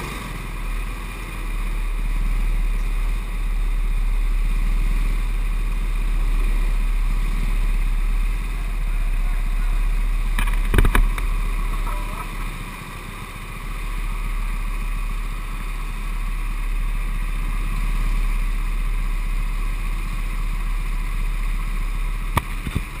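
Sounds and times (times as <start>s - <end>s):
go-kart engine rumble: 0.0s - 23.0s.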